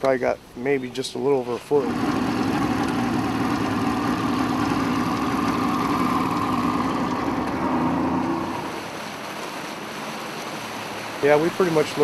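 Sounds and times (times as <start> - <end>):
outboard motor running: 1.6 - 12.0.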